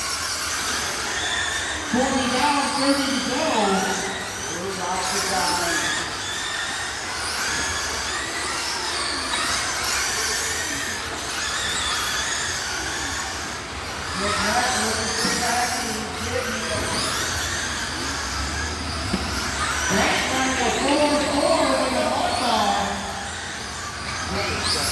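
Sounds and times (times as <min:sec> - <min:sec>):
rc car motors whining: 0:00.0 - 0:24.9.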